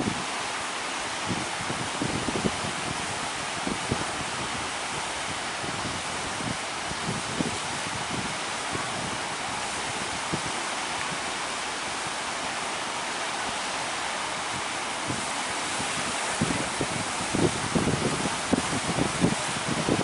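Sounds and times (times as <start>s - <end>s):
surf and waves breaking: 0.0s - 20.0s
wind buffeting microphone: 0.0s - 20.0s.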